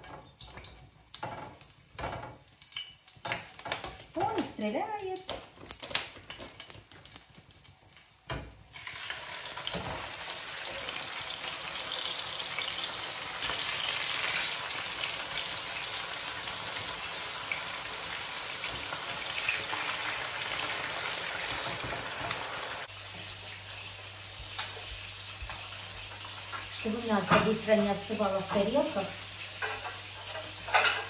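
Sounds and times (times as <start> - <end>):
meat sizzling in frying pan: 0.0 - 31.0.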